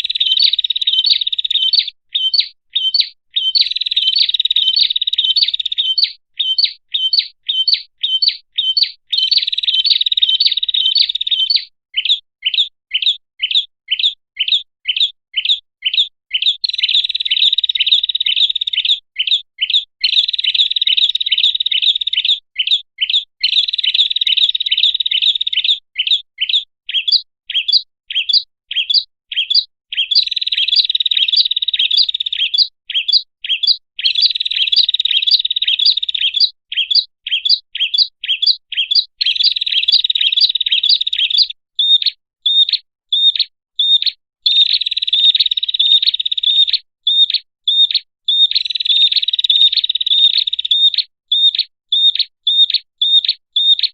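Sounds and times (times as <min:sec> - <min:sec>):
bird trilled chattering: 0:00.0 - 0:53.9.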